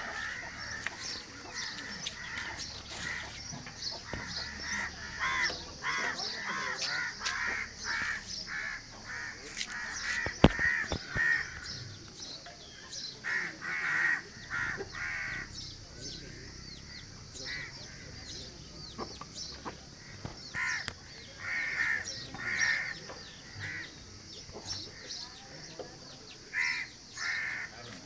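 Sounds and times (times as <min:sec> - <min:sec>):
crows cawing: 0:00.0 - 0:11.9, 0:13.2 - 0:18.4, 0:19.9 - 0:24.0, 0:26.5 - 0:27.9.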